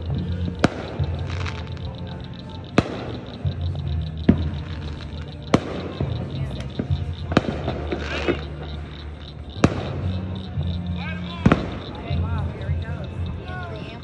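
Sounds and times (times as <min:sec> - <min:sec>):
fireworks bangs: 0:00.0 - 0:13.4
faint fireworks pops: 0:00.0 - 0:14.0.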